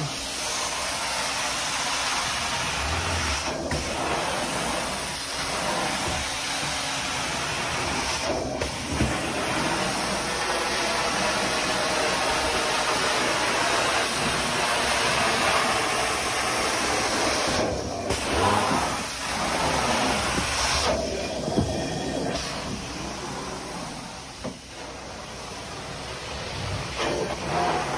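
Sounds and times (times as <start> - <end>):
carpet extraction suction and spray hiss: 0.0 - 27.9.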